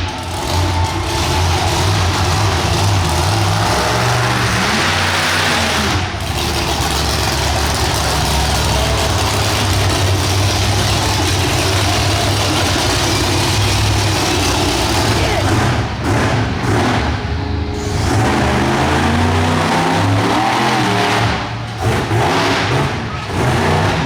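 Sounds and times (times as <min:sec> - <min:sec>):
monster truck engine running: 0:00.0 - 0:24.0.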